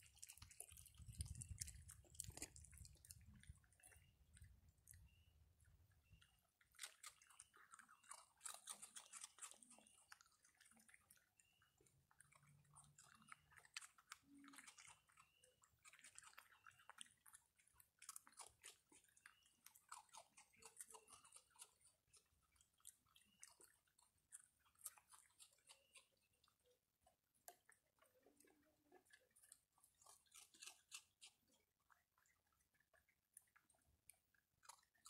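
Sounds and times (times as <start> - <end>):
raccoons chewing and crunching food: 0.0 - 35.0.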